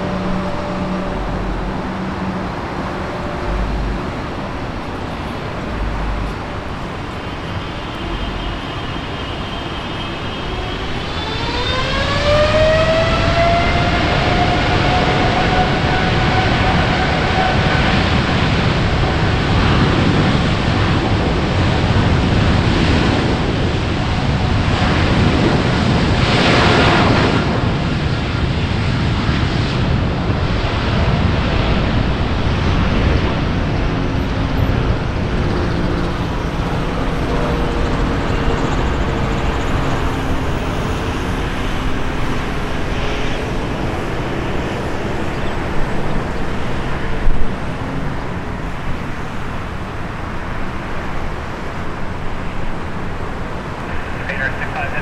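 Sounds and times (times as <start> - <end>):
jet engines spooling up: 0.0 - 55.0.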